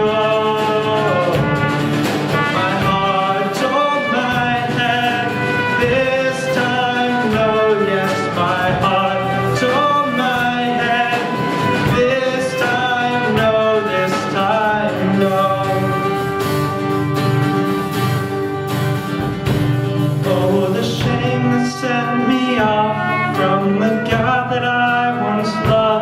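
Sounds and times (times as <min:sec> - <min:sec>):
live folk-rock band playing: 0:00.0 - 0:26.0.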